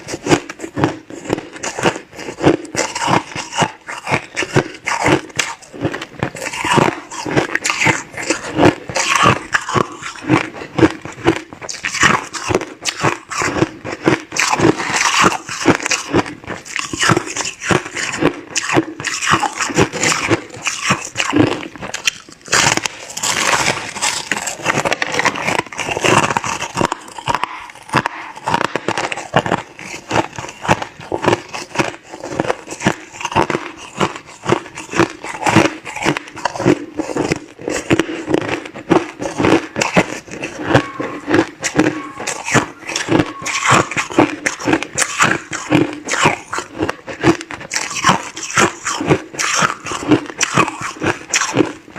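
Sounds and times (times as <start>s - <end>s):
ice crunching while chewed: 0.0s - 51.9s.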